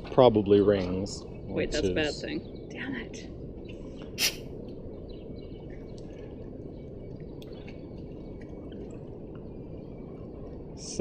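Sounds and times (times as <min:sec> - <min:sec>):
outdoor background noise: 0:00.0 - 0:11.0
faint bird chirps: 0:00.7 - 0:11.0.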